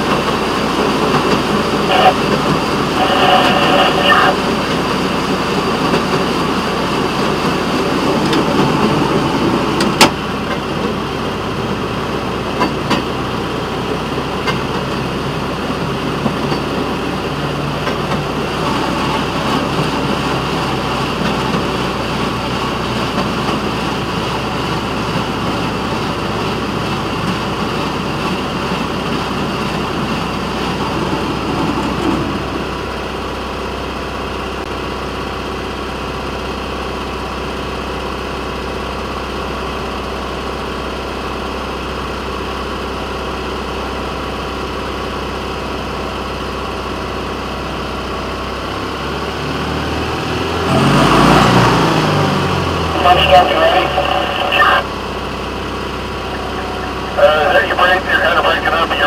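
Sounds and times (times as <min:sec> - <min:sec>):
railroad motorcar engine: 0:00.0 - 0:59.0.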